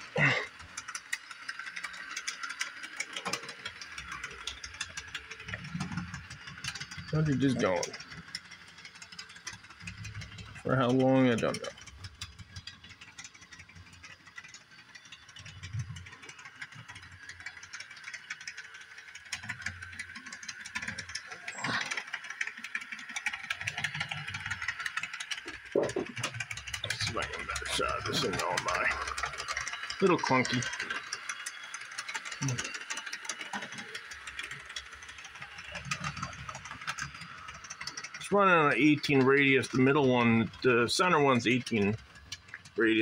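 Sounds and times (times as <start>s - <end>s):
rapid clicks and clunks: 0.0s - 43.0s
small motor whirring: 0.0s - 43.0s.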